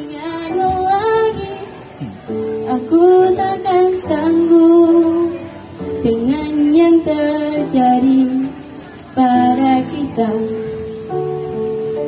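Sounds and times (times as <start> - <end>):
girl singing pop ballad: 0.0 - 2.0, 2.6 - 10.9.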